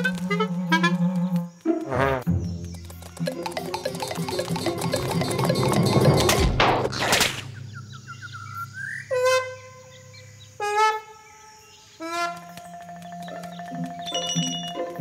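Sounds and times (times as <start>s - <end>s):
rising chirping run: 0.0s - 9.2s, 11.6s - 15.0s.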